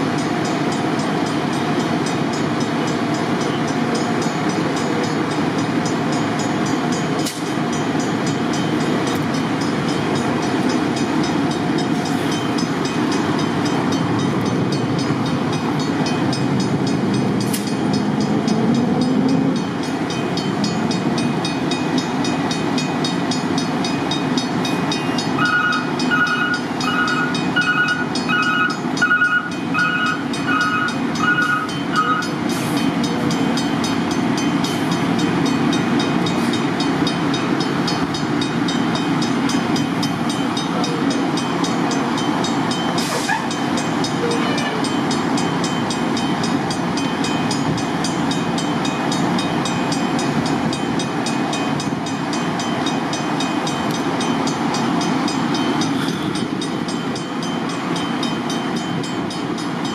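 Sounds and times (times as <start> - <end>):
heavy vehicles idling rumble: 0.0 - 59.9.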